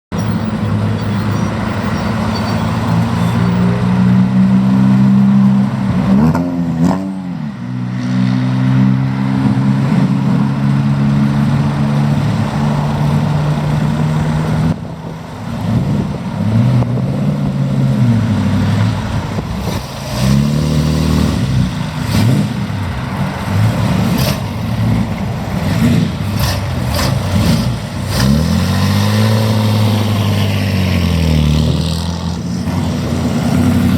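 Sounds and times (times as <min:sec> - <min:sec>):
sports car engines revving: 0:00.2 - 0:33.9.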